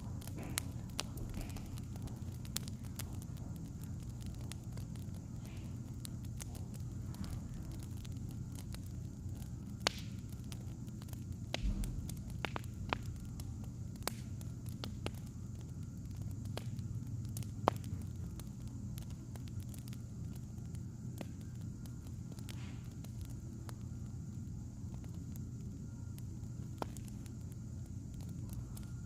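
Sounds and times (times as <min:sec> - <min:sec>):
low hum: 0:00.0 - 0:29.0
wood fire crackling: 0:00.0 - 0:29.0.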